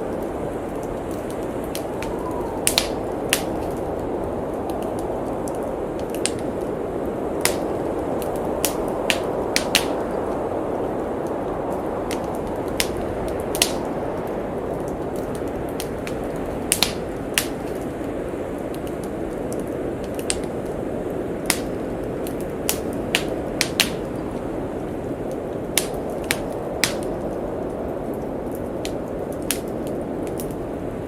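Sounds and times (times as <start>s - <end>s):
blizzard wind rushing: 0.0s - 31.0s
wood fire crackling in fireplace: 0.0s - 31.0s.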